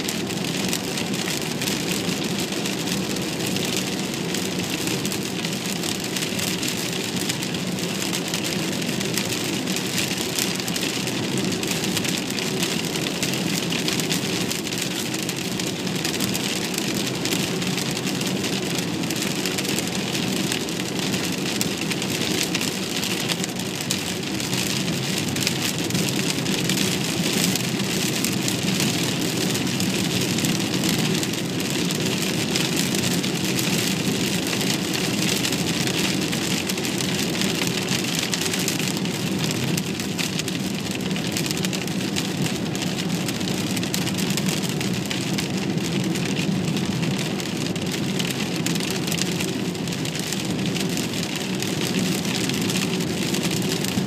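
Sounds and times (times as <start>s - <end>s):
rain on a car: 0.0s - 54.0s
road and engine noise: 0.0s - 54.0s.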